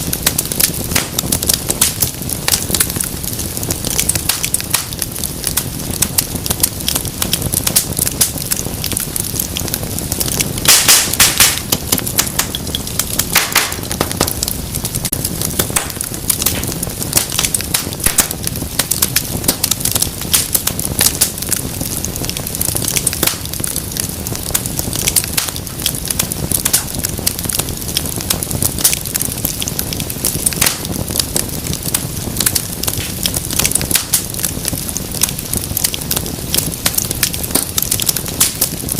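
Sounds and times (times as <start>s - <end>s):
low rumble of flame: 0.0s - 38.9s
wood fire crackling and popping: 0.0s - 38.9s.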